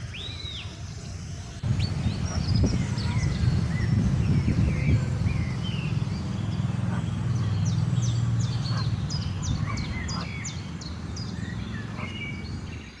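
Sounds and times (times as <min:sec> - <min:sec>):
birds chirping: 0:00.0 - 0:13.0
low steady rumble: 0:01.6 - 0:13.0.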